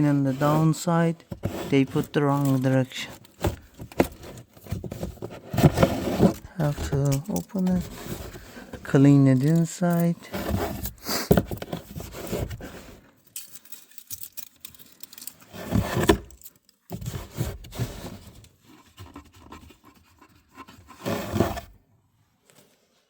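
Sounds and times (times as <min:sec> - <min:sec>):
hands handling plastic housing: 0:00.4 - 0:20.0.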